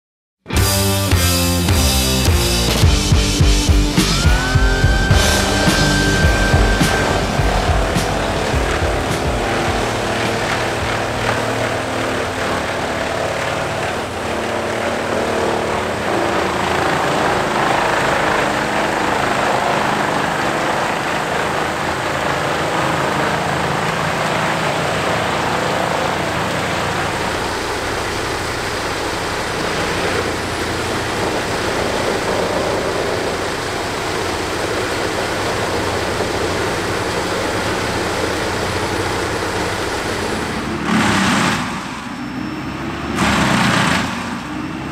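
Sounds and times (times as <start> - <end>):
tree chipper droning: 0.5 - 44.9.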